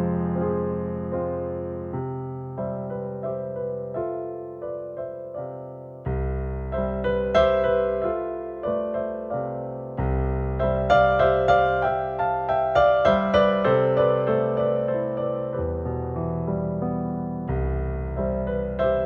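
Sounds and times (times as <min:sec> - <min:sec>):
solo piano playing: 0:00.0 - 0:19.0.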